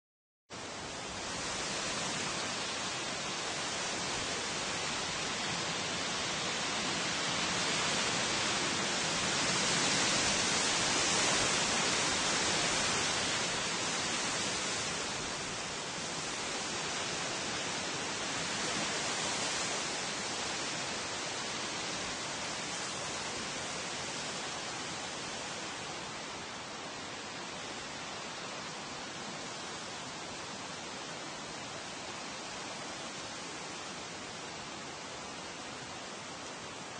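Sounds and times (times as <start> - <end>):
wind rustling leaves: 0.5 - 36.9.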